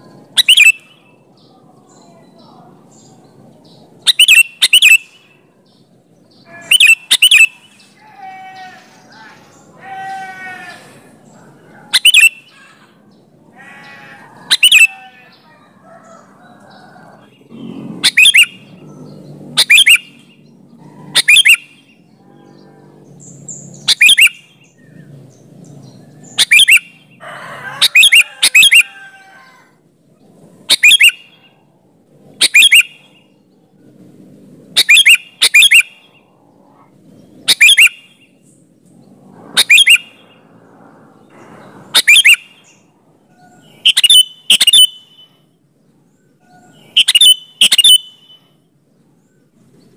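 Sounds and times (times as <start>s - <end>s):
bird chirping sharp phrases: 0.0s - 49.9s.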